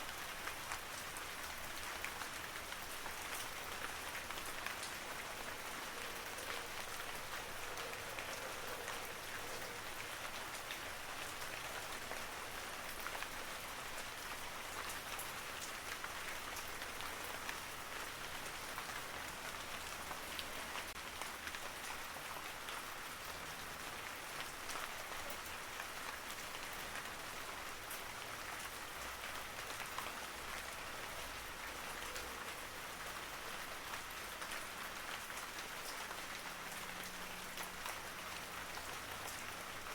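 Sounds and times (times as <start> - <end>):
raindrops ticking on surfaces: 0.0 - 39.9
steady rain hissing: 0.0 - 39.9.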